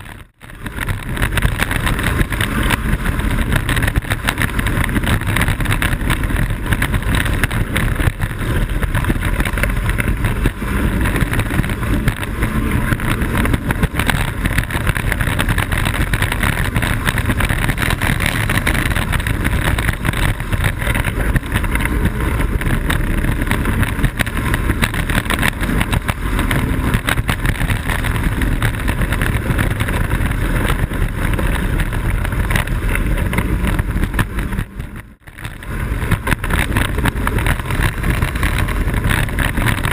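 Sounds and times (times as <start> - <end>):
wheels rumbling and rattling: 0.0 - 39.9
wind rush on microphone: 0.0 - 39.9.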